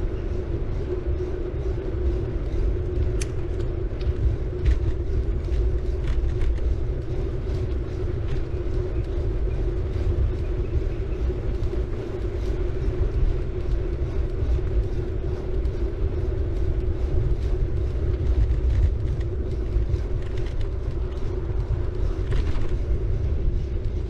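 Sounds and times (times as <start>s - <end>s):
bike tyre rumble: 0.0s - 24.0s
steady hum: 0.0s - 24.0s
bike clicks and rattles: 0.7s - 24.0s.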